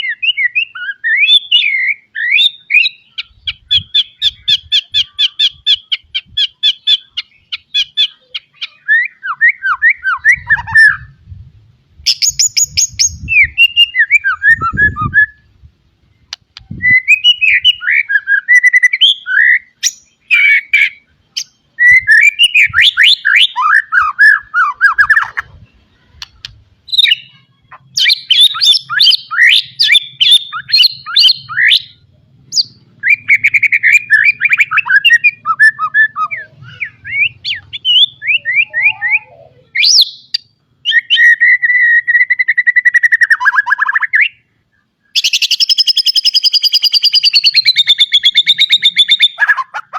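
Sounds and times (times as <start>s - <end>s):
songbird singing varied song: 0.0s - 49.9s.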